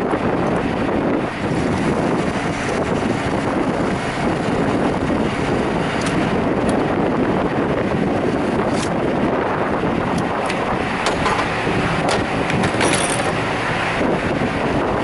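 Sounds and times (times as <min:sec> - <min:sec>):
diesel rushing through pump nozzle: 0:00.0 - 0:15.0.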